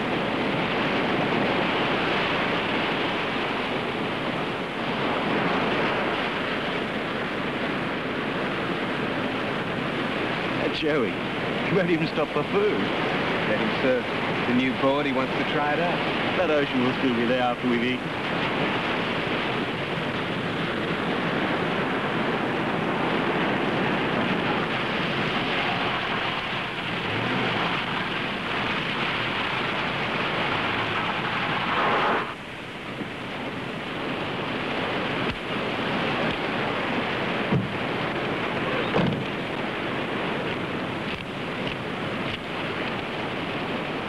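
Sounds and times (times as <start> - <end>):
ocean surf roaring: 0.0 - 44.0.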